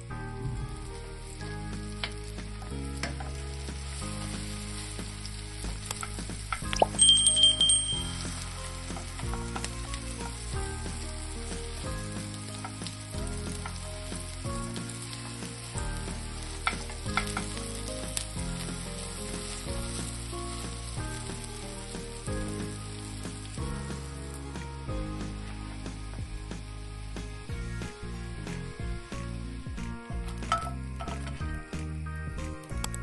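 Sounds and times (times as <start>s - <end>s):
music with bass line: 0.0s - 33.0s
food sizzling in oil: 0.1s - 31.9s.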